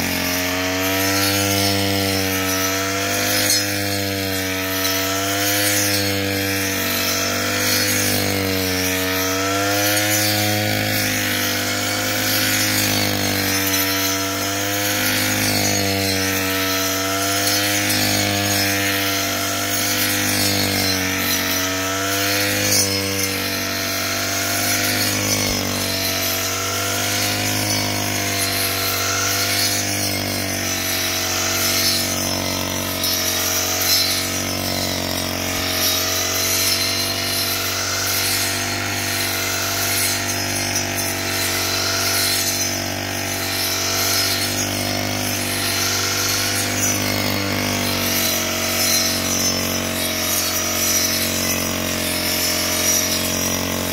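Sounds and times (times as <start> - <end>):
brush cutter cutting grass: 0.0 - 53.9.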